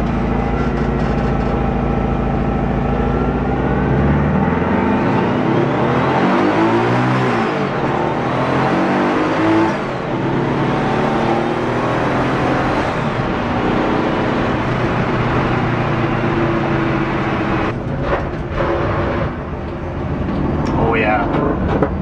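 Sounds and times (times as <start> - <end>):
car engine revving and running: 0.0 - 22.0.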